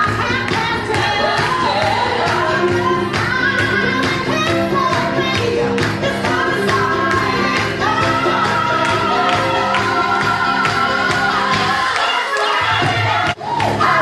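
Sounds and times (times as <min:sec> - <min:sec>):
dance-pop song with singing: 0:00.0 - 0:14.0.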